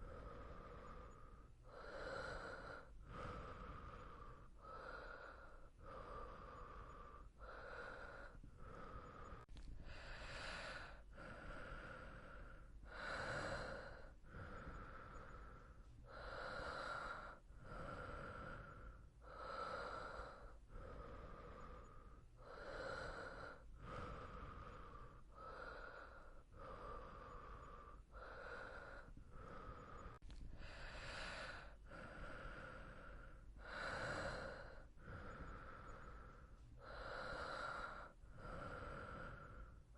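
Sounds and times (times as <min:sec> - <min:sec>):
person breathing softly in sleep: 0:00.0 - 0:39.9.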